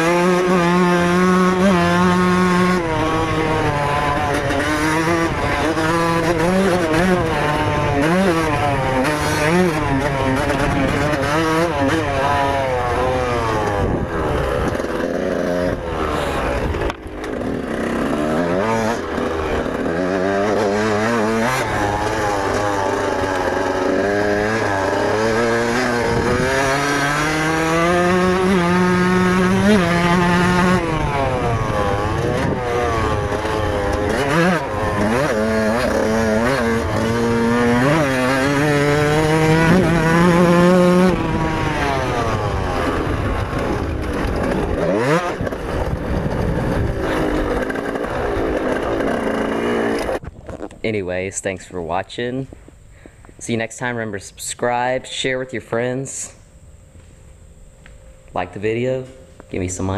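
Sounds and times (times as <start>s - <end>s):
two-stroke motorbike engine revving: 0.0s - 51.5s.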